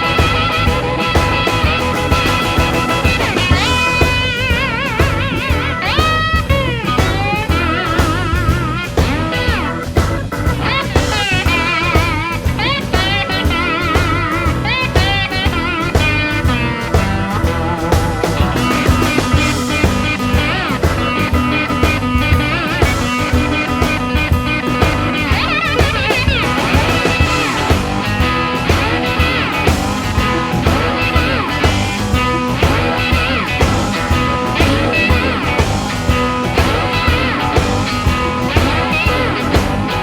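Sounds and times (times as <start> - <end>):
bass: 0.0 - 40.0
blues guitar lead: 0.0 - 40.0
steady drum beat: 0.0 - 40.0.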